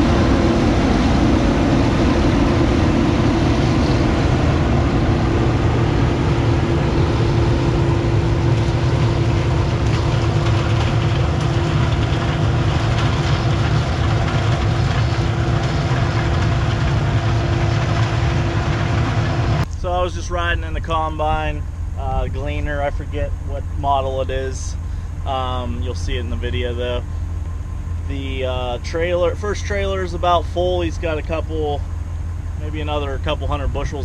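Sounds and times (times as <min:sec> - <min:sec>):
combine harvester engine drone: 0:00.0 - 0:34.0.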